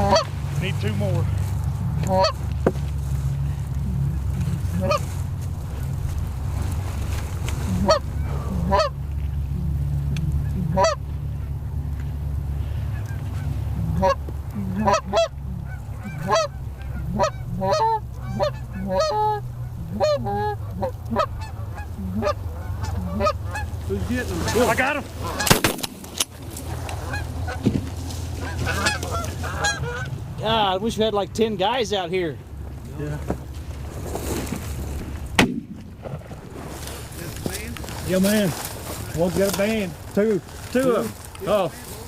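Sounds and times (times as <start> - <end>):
geese honking: 0.0 - 32.8, 33.6 - 42.0
steady low rumble: 0.0 - 42.0.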